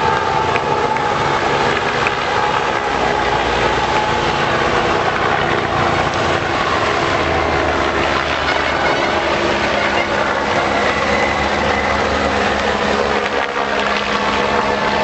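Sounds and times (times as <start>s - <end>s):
steady engine noise: 0.0s - 15.0s.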